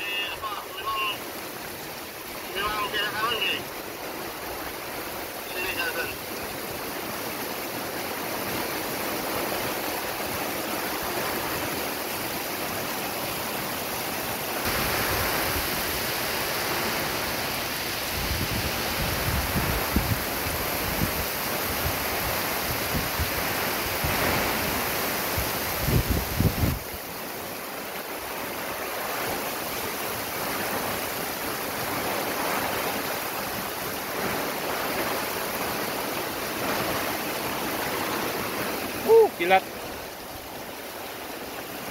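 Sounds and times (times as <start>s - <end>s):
heavy rain and wind: 0.0s - 41.9s.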